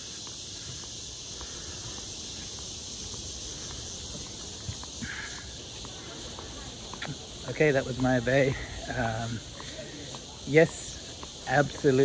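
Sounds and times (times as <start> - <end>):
footsteps on a boardwalk: 0.0 - 12.0
high-pitched insect chorus: 0.0 - 12.0.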